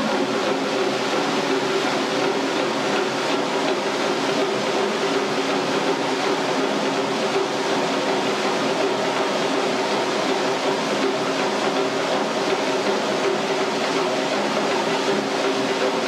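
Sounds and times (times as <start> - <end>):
waterfall rushing into pool: 0.0 - 16.0.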